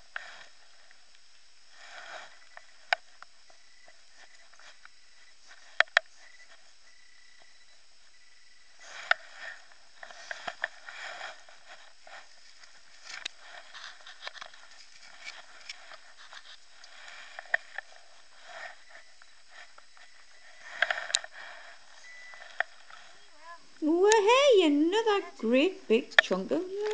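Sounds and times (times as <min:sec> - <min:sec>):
faint steady high tone: 0:02.1 - 0:12.3, 0:13.1 - 0:26.9.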